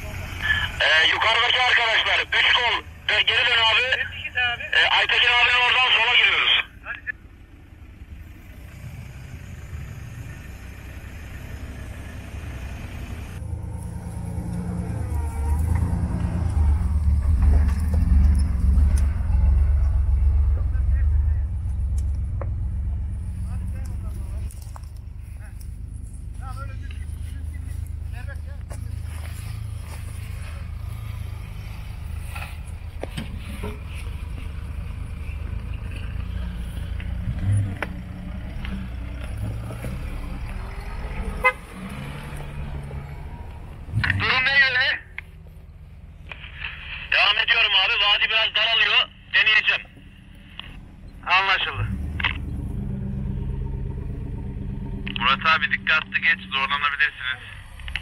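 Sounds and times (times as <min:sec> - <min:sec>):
pickup engines rumbling: 0:00.0 - 0:58.0.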